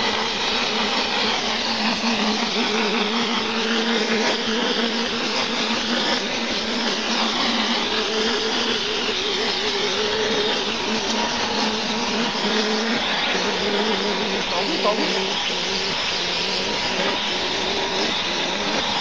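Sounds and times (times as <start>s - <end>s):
air pump humming: 0.0s - 19.0s
spray gun hissing: 0.0s - 19.0s.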